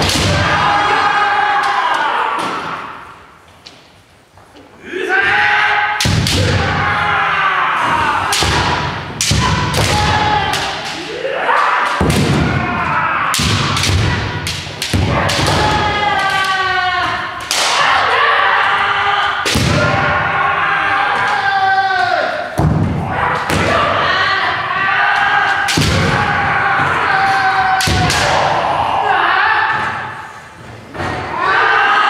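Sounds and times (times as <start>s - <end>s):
people shouting kiai: 0.0s - 3.2s, 4.8s - 30.3s, 31.0s - 32.0s.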